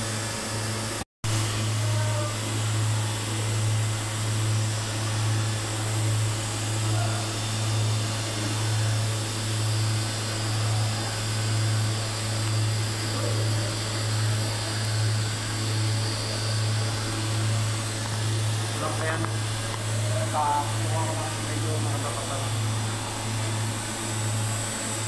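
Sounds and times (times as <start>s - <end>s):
fan-like hiss: 0.0s - 25.0s
welding machine pulsing hum: 0.0s - 25.0s.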